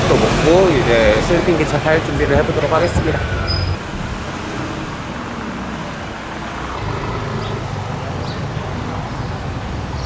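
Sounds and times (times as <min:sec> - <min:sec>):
cars and motorbikes passing: 0:00.0 - 0:10.0.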